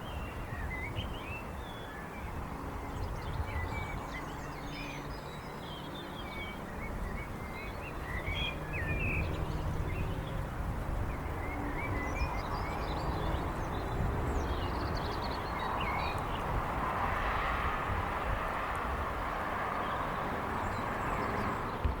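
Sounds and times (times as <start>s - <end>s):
low rumble of vehicle engines: 0.0s - 22.0s
songbirds chirping: 0.0s - 22.0s.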